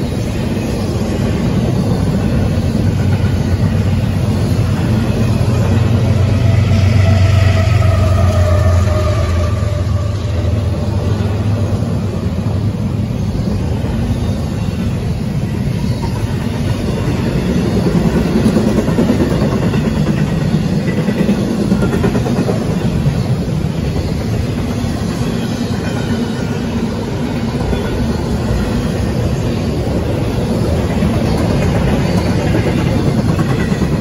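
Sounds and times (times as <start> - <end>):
diesel locomotive engine hum: 0.0 - 34.0
freight cars clickety-clack: 0.0 - 34.0.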